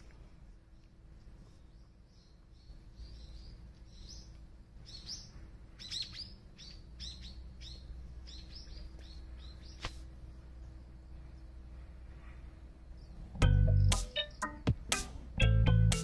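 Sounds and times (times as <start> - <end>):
small bird chirping: 0.6 - 11.7, 12.6 - 15.1.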